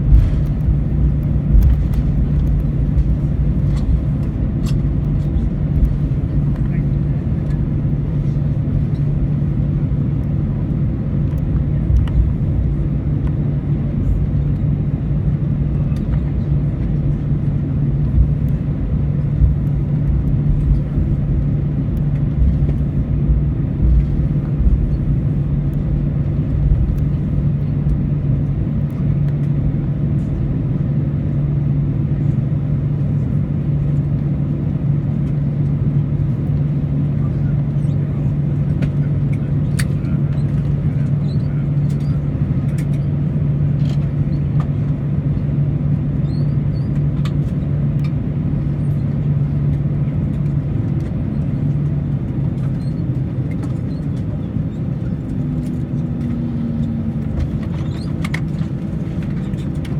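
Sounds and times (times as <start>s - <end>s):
airplane cabin hum: 0.0s - 59.9s.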